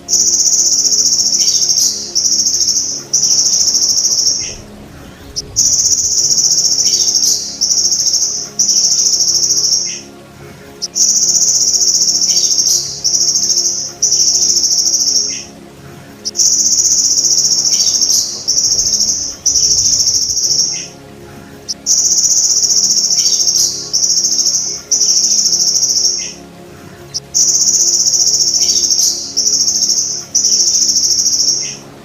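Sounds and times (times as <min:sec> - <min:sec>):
grasshopper buzzing trills: 0:00.0 - 0:32.0.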